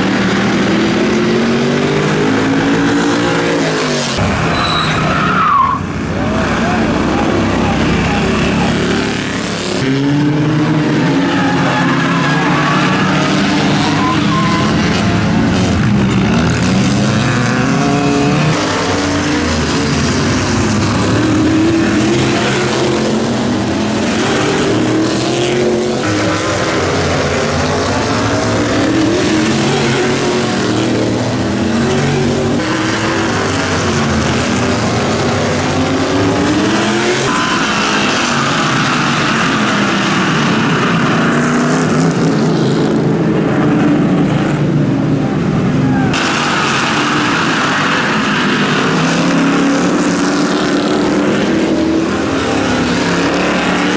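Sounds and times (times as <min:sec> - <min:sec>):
race car engines passing: 0:00.0 - 0:53.9.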